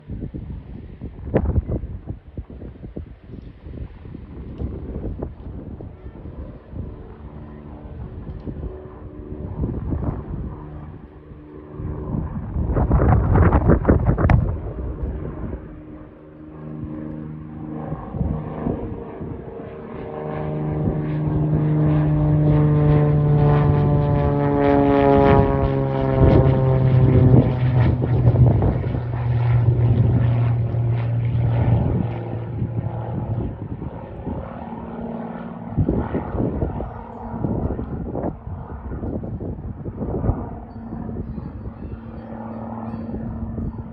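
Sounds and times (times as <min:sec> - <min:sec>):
airplane engine and propeller drone: 0:00.0 - 0:43.9.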